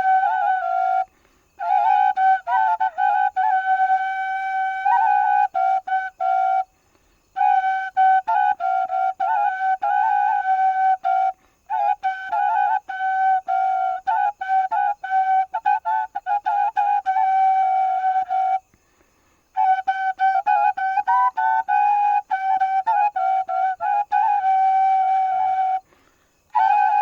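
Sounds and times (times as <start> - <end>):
solo wind instrument melody: 0.0 - 18.8, 19.5 - 27.0.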